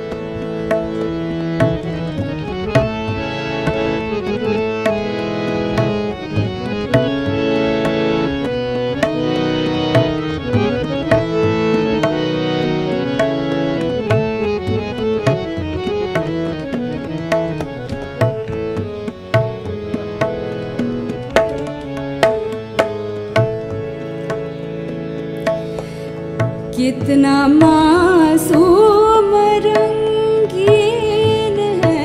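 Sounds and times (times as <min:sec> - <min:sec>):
harmonium melody: 0:00.0 - 0:32.0
tabla strokes: 0:00.0 - 0:32.0.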